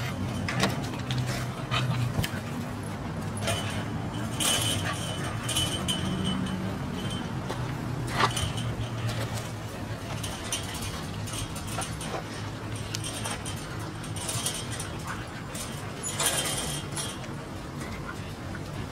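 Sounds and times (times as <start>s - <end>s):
dogs scuffling: 0.0s - 18.9s
metallic jingles and clicks: 0.0s - 18.9s.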